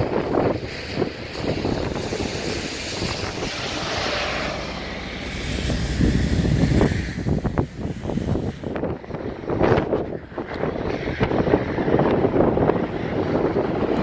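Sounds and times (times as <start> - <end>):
bus passing: 0.0 - 14.0
heavy rumble: 0.0 - 14.0
road traffic passing: 0.0 - 14.0
wind buffeting microphone: 0.0 - 14.0.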